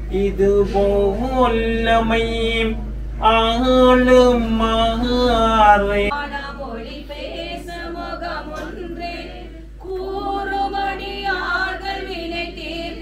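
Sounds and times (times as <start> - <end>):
voices singing a hymn: 0.2 - 13.0.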